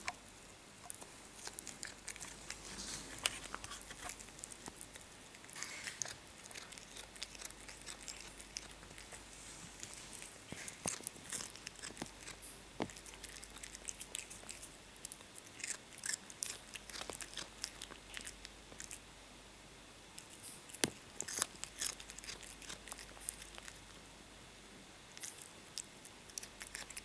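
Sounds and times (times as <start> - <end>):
cat chewing crunchy food: 0.8 - 19.1, 20.1 - 24.0, 25.1 - 27.0.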